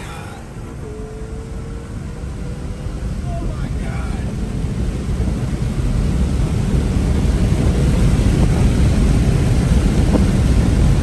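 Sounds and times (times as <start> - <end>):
car engine tyre and wind rumble: 0.0 - 11.0.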